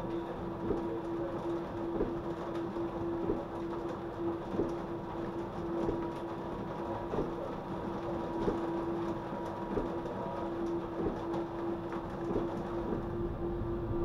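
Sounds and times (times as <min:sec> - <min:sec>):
tram electrical hum: 0:00.0 - 0:14.0.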